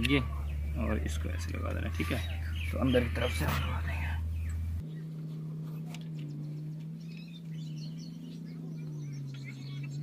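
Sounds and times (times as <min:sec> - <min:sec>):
birds chirping: 0:00.0 - 0:10.0
low machine hum: 0:00.0 - 0:10.0.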